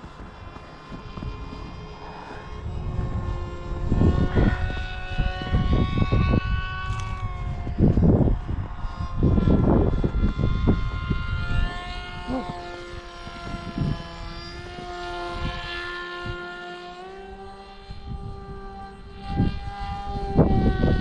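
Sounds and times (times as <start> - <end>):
electric motors and propellers whining: 0.0 - 21.0
wind buffeting microphone: 0.0 - 21.0.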